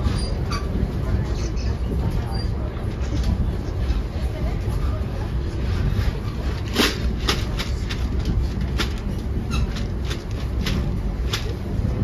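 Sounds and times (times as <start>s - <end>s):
train car rumbling on rails: 0.0s - 12.0s.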